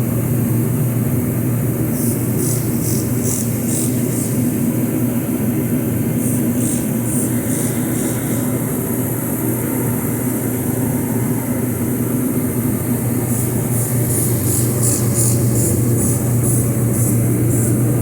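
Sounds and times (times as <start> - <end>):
shop heater drone: 0.0 - 18.0.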